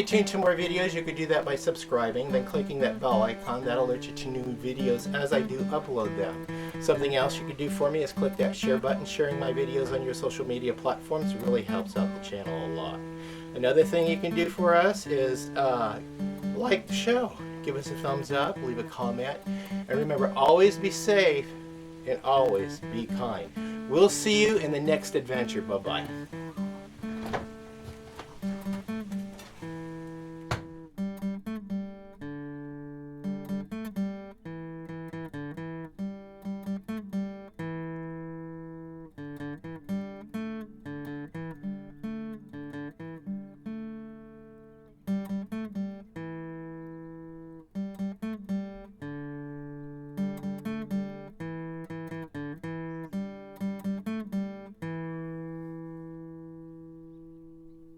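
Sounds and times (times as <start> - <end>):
acoustic guitar plucked notes: 0.0 - 57.9.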